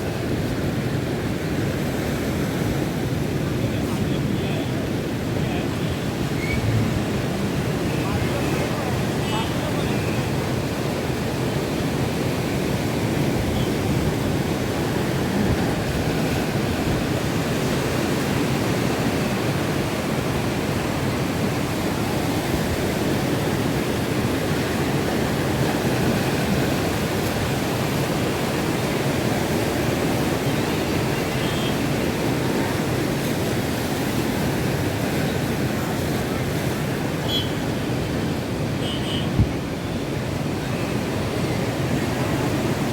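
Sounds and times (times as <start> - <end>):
strong wind: 0.0 - 42.9.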